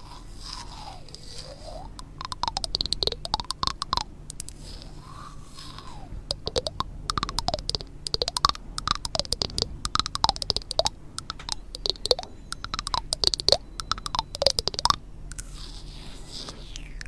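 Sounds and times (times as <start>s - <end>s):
rapid clicking and tapping: 0.0s - 16.9s.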